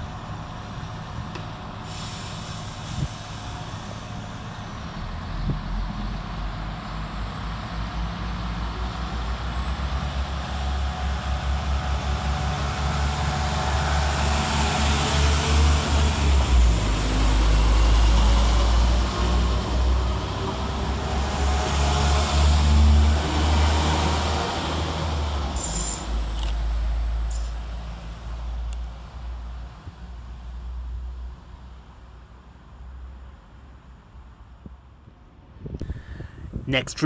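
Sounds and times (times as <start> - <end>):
diesel train engine rumble: 0.0 - 37.0.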